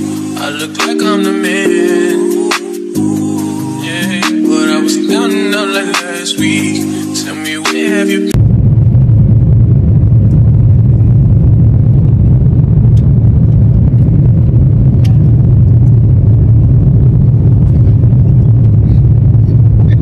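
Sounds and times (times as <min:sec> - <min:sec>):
airliner cabin drone: 0:00.0 - 0:20.0.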